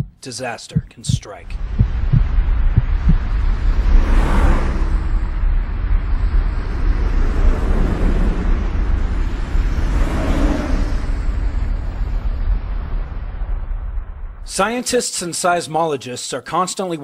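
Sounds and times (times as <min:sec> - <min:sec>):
deep continuous rumble: 0:00.0 - 0:14.8.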